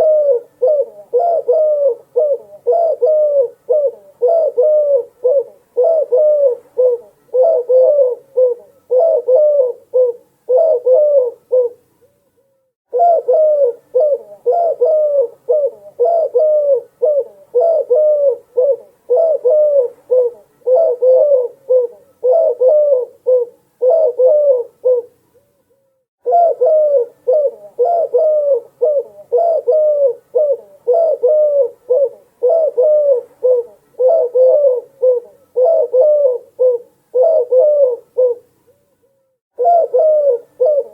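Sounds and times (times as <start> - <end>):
dove cooing: 0.0 - 12.1, 12.9 - 25.2, 26.2 - 38.6, 39.6 - 40.9.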